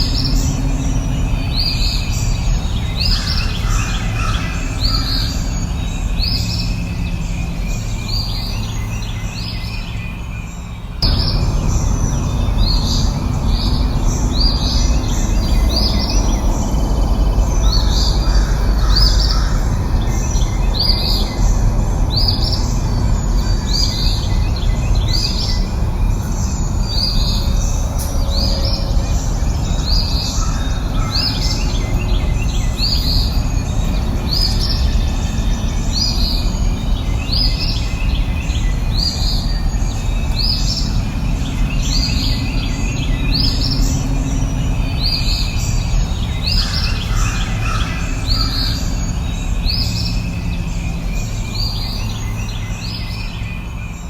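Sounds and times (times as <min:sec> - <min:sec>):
low outdoor background rumble: 0:00.0 - 0:54.0
songbirds chirping: 0:00.0 - 0:54.0.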